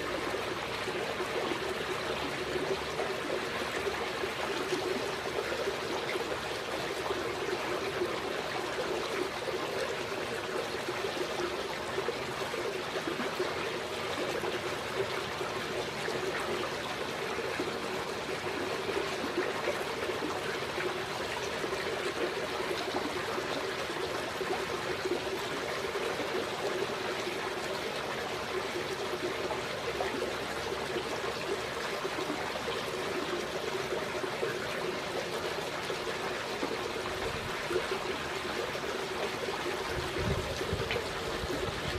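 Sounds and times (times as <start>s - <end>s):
water trickling: 0.0s - 41.9s.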